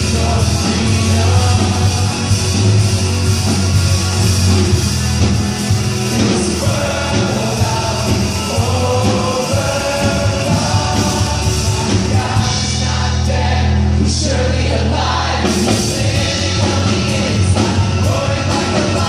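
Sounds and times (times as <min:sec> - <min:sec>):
band playing worship music: 0:00.0 - 0:19.0
crowd singing along: 0:00.0 - 0:19.0.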